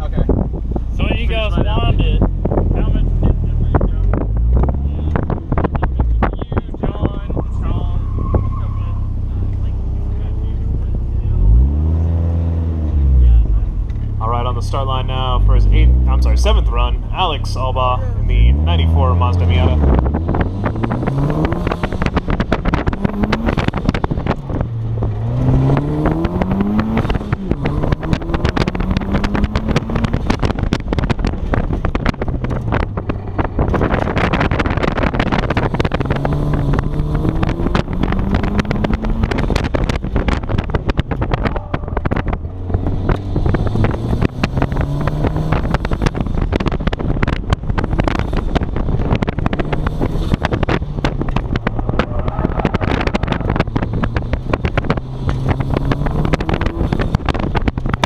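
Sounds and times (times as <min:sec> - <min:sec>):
car engine revving: 0:00.0 - 0:58.0
wind and road noise: 0:00.0 - 0:58.0.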